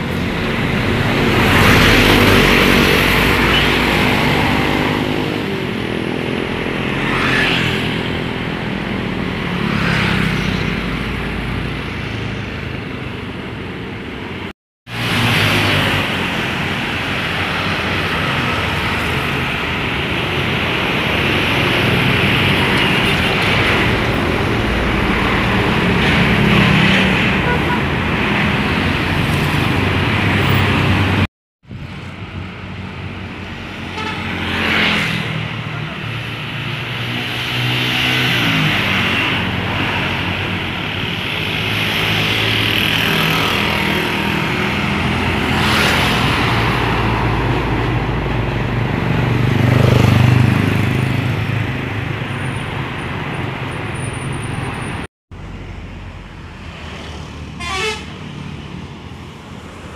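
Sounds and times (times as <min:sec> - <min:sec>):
buses passing: 0:00.0 - 0:59.9
road traffic engine and tyre noise: 0:00.0 - 0:59.9.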